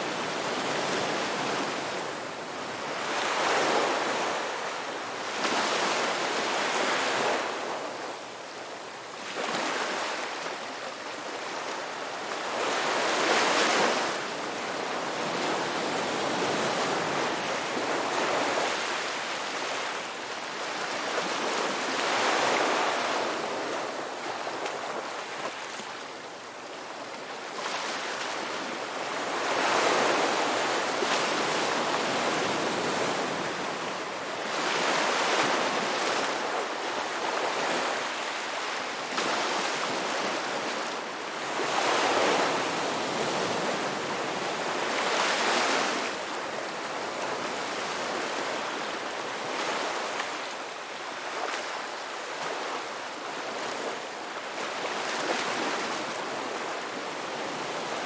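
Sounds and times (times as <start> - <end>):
ocean waves breaking on shore: 0.0 - 8.4, 9.2 - 58.0.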